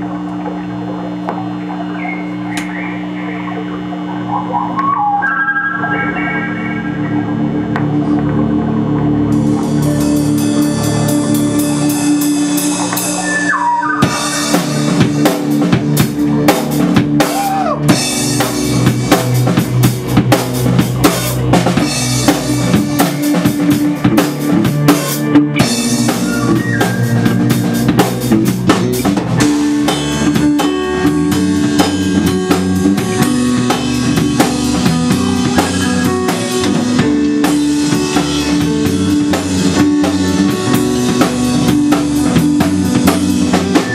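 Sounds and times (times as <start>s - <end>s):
sustained guitar and bass: 0.0s - 43.9s
drum kit with rimshots: 0.4s - 43.9s.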